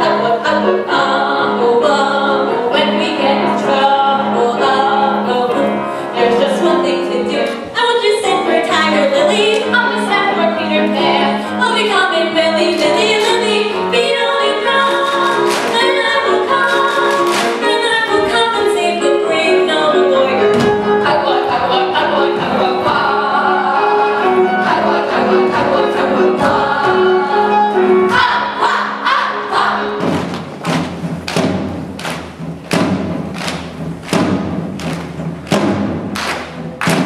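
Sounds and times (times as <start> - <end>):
cast singing together: 0.0 - 30.2.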